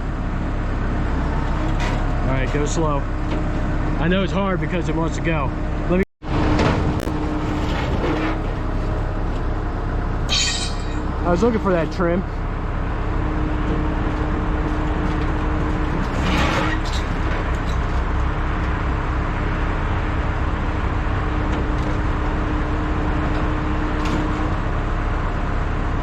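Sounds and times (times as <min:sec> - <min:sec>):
truck engine running under load: 0:00.0 - 0:26.0.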